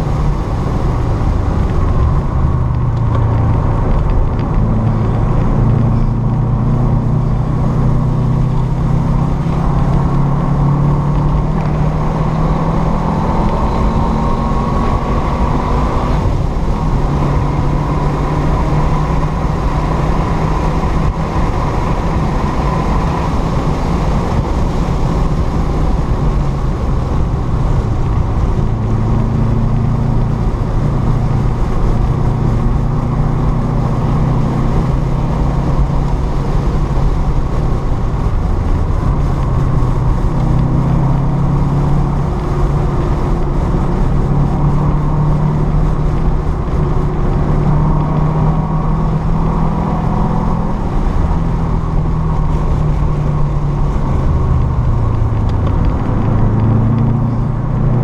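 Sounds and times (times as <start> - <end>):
car engine revving: 0.0 - 58.0
road noise: 0.0 - 58.0.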